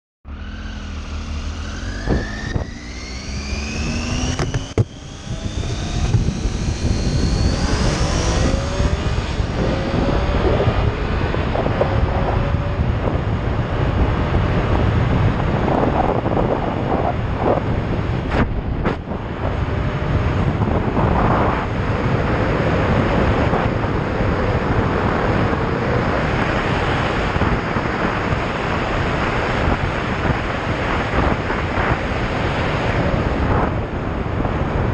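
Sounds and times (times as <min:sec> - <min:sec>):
motorcycle engine accelerating: 0:00.2 - 0:34.9
wind noise on microphone: 0:00.3 - 0:34.9.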